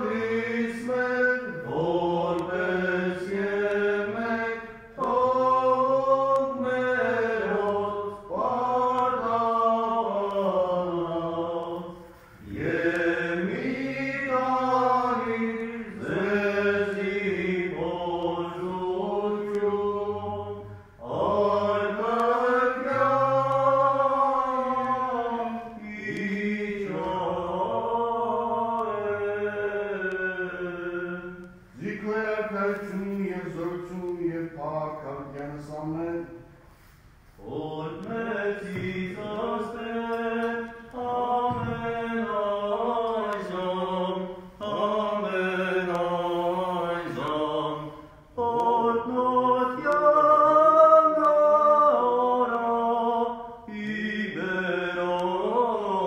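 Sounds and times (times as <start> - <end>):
liturgical chant: 0.0 - 56.0.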